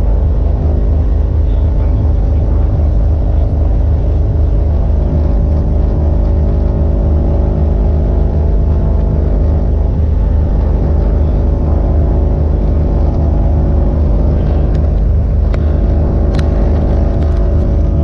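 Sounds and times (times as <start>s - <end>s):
aircraft piston engines droning: 0.0s - 18.0s.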